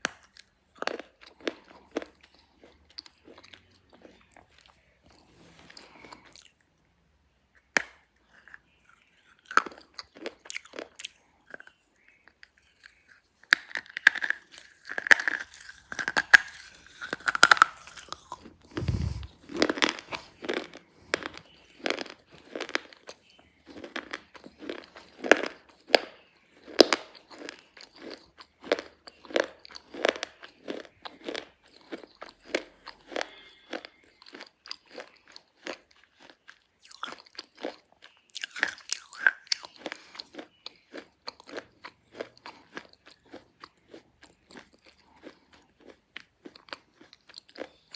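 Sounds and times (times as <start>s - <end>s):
crunchy chewing: 0.0s - 6.7s, 7.9s - 47.9s.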